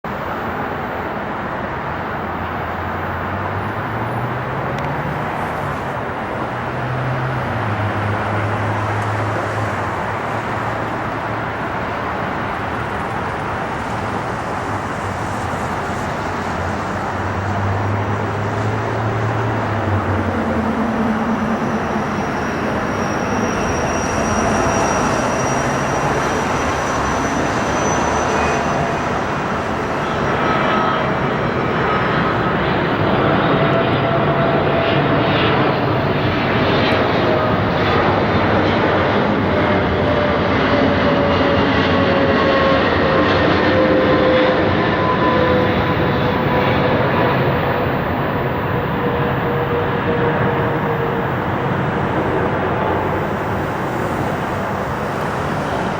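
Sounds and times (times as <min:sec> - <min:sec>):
jet airliner flying past: 0:00.0 - 0:55.9.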